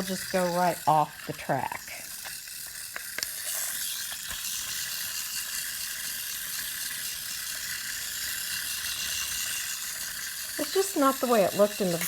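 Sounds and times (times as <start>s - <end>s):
toy cars whirring: 0.0s - 12.0s.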